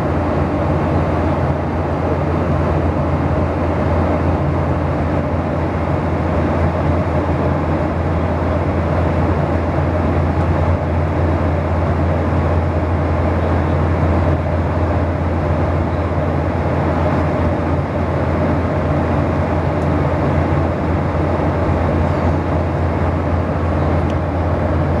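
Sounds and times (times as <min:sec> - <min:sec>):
airliner cabin noise: 0:00.0 - 0:25.0.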